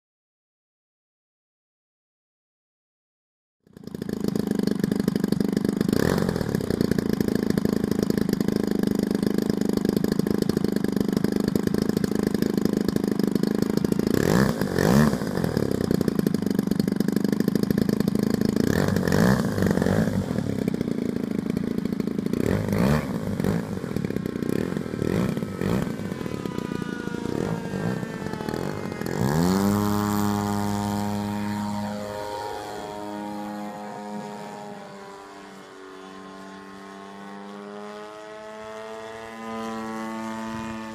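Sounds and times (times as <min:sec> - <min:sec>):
model plane gas engine: 0:03.6 - 0:40.9.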